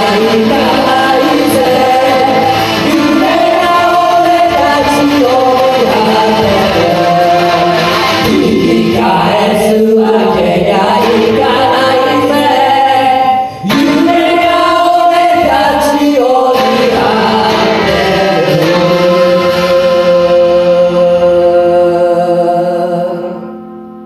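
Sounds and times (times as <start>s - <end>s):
band accompaniment: 0.0s - 21.6s
voices singing rock song: 0.0s - 23.6s.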